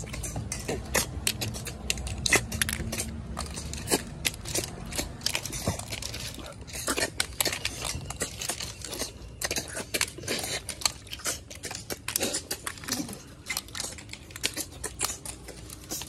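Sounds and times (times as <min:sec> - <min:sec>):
snail shells clicking on steel bowls: 0:00.0 - 0:16.0.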